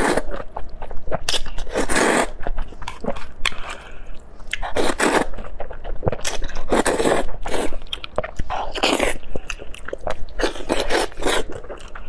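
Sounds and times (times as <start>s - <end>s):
person biting and chewing food: 0.0s - 12.0s.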